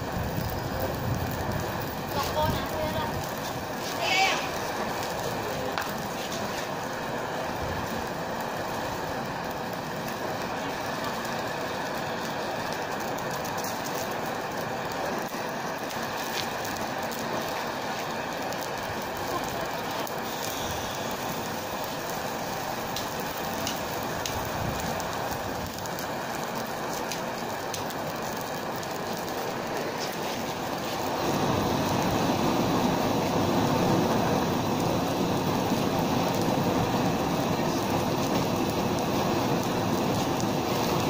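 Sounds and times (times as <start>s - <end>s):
faint crackles of burning plastic: 0.0s - 41.0s
torch flame hissing: 0.0s - 41.0s.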